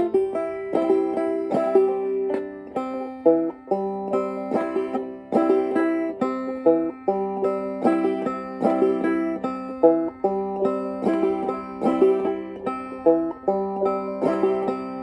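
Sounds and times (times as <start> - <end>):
banjo playing: 0.0 - 15.0.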